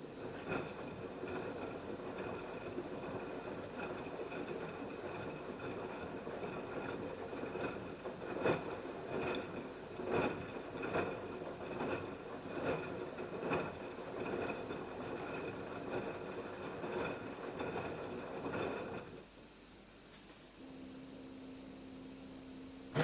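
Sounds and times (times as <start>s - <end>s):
drum tumbling wet laundry: 0.0s - 19.3s
washing machine motor hum: 0.0s - 23.0s.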